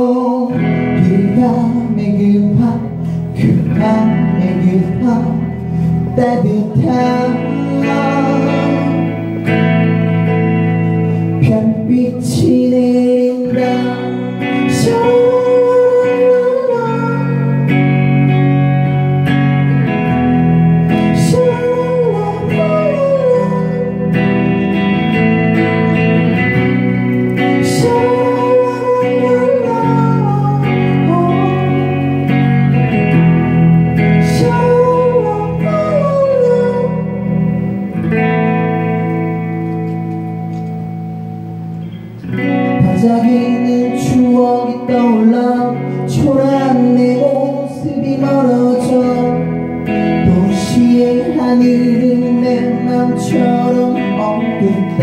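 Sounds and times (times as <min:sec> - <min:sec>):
sliding guitar melody: 0:00.0 - 0:55.0
live rock band playing: 0:00.4 - 0:55.0.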